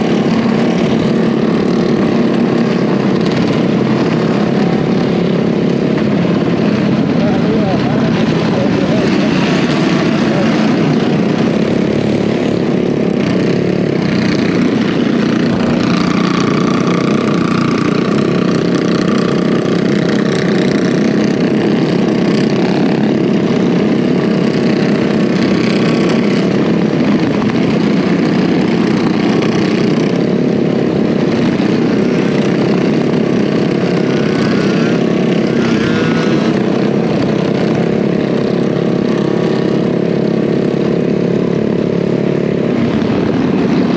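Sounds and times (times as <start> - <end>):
minibike engine running: 0.0 - 43.9.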